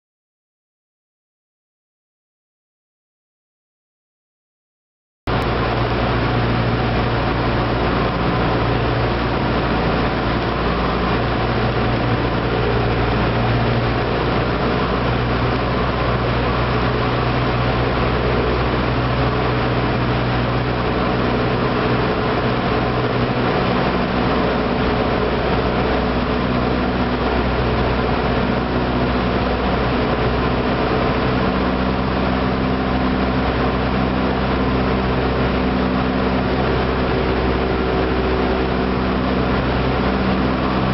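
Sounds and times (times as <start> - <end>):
propeller plane engine droning: 5.3 - 40.9
rush of airflow: 5.3 - 40.9.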